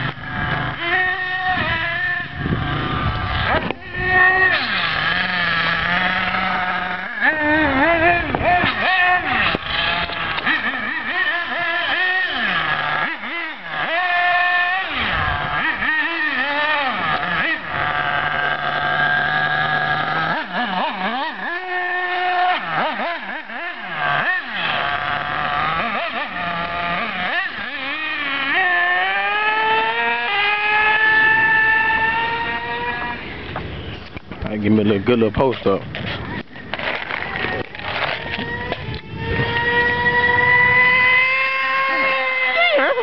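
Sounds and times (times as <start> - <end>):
remote-control buggy motor revving: 0.0 - 43.0.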